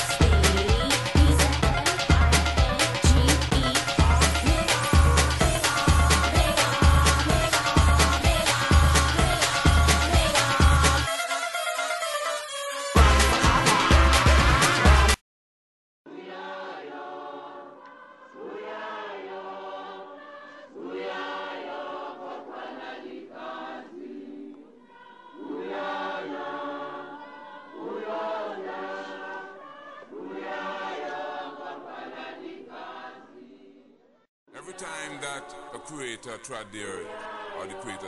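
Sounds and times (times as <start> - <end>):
choir singing: 0.0 - 15.2, 16.1 - 38.0.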